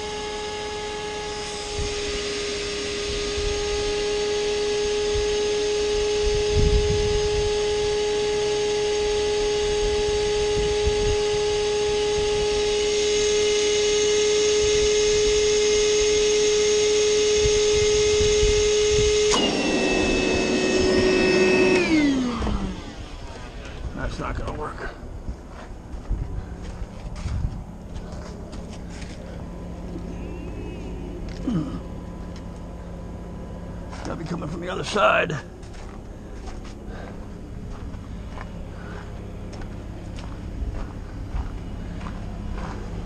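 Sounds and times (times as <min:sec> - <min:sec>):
power tool motor whining: 0:00.0 - 0:24.6, 0:26.6 - 0:43.0.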